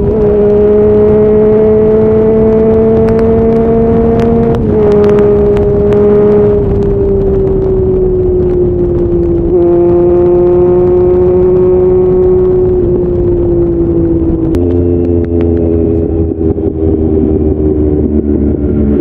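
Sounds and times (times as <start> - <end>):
motorcycle engine at speed: 0.0 - 19.0
wind rumble: 0.0 - 19.0.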